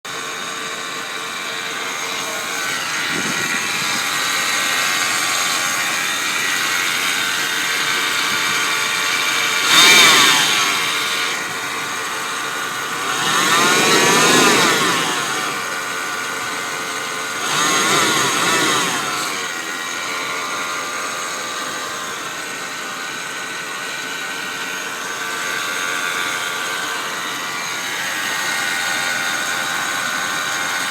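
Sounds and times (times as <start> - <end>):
engine running with steady whir: 0.0 - 30.9.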